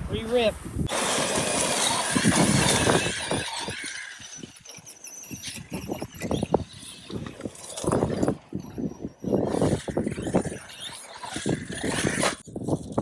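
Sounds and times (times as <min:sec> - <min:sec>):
electric motor whine: 0:00.9 - 0:12.5.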